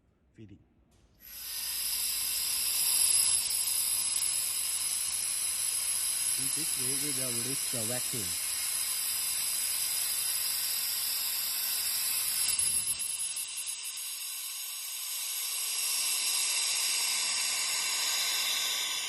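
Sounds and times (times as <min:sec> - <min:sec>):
air hissing through valve: 0:01.2 - 0:19.0.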